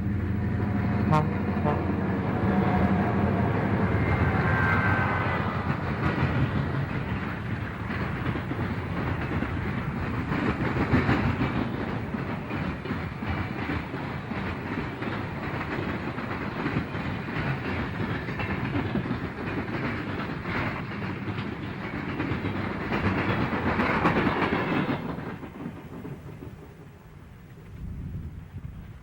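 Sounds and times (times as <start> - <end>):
freight train rolling past: 0.0 - 29.0
train wheels clicking on rail joints: 0.0 - 29.0.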